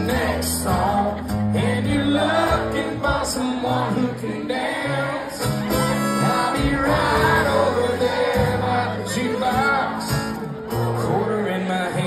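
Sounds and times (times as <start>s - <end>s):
country band playing: 0.0s - 12.0s
strummed acoustic guitar: 0.0s - 12.0s.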